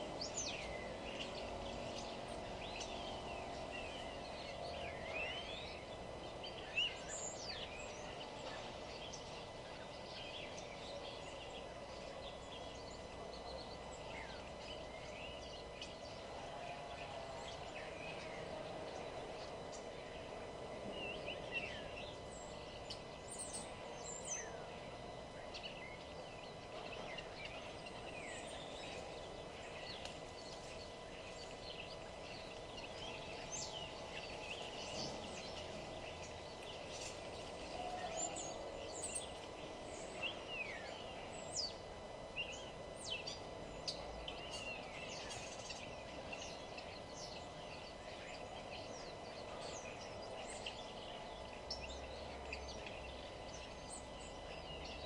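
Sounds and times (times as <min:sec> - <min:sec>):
birds chirping and singing: 0:00.0 - 0:55.0
steady low background hum: 0:00.0 - 0:55.0.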